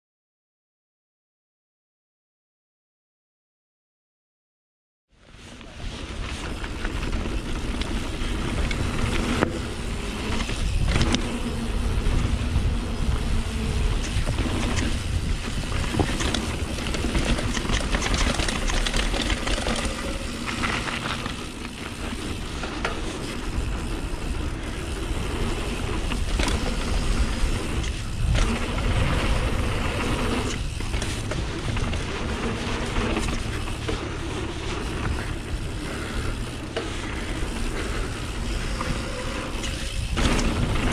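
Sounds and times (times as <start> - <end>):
bike tyres rolling on dirt: 5.2 - 40.9
wind buffeting camera: 5.6 - 40.9.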